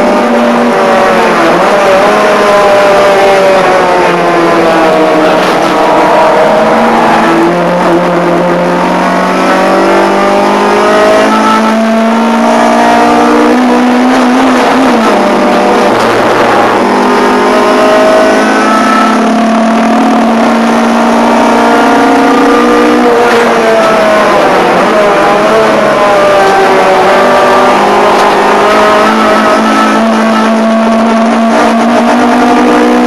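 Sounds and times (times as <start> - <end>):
race car engine at high revs: 0.0 - 33.0.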